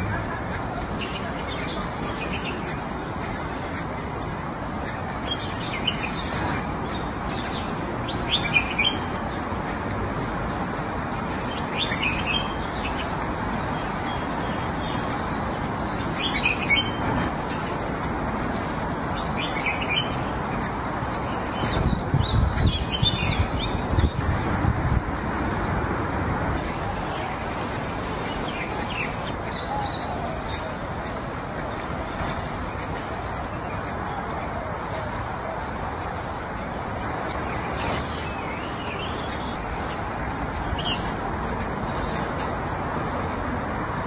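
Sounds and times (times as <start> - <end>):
outdoor background noise: 0.0 - 44.0
small birds chirping: 0.0 - 44.0.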